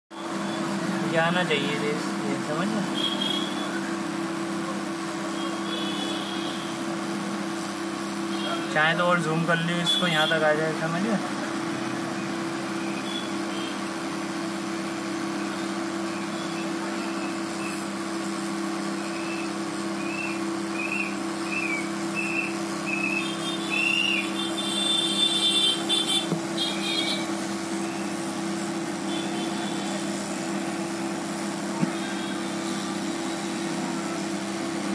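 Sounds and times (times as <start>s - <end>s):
motor or fan humming: 0.1s - 34.9s.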